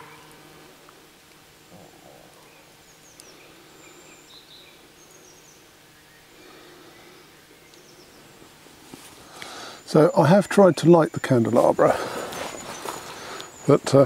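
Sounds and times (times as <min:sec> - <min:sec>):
woodland ambience: 0:00.0 - 0:14.0
faint bird chirps: 0:01.7 - 0:08.6, 0:09.3 - 0:14.0.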